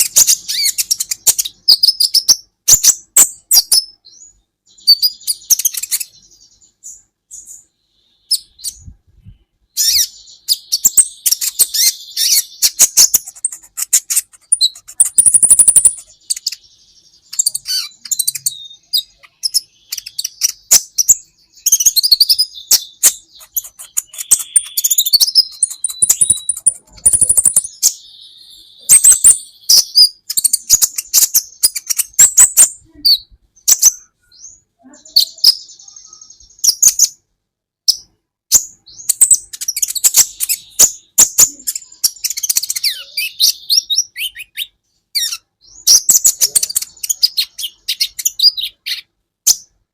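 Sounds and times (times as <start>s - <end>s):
sunbird chirping and trilling: 0.0s - 37.3s, 37.9s - 49.8s.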